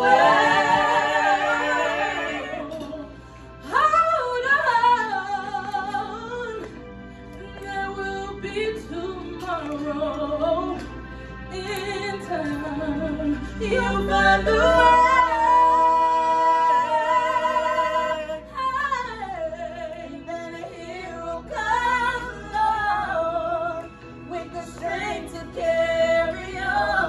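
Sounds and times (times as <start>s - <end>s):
young woman singing: 0.0s - 6.8s, 7.4s - 27.0s
group of singers: 0.0s - 27.0s.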